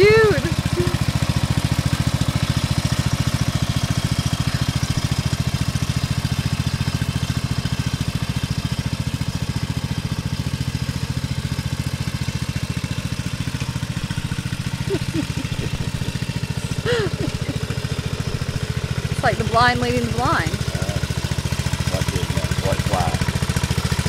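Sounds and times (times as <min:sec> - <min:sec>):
riding lawn mower engine running: 0:00.0 - 0:24.0.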